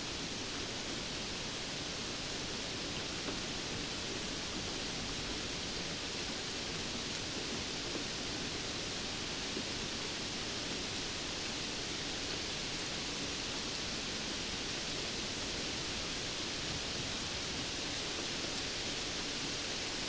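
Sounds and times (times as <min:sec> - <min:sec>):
steady rainfall hiss: 0:00.0 - 0:20.0.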